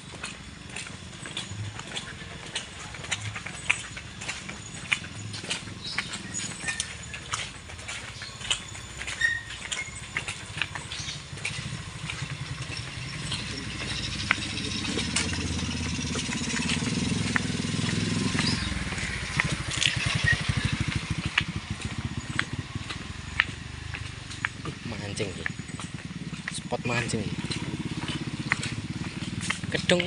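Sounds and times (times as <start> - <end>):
engine running: 0.0 - 30.0
sharp clicks and taps: 0.2 - 30.0.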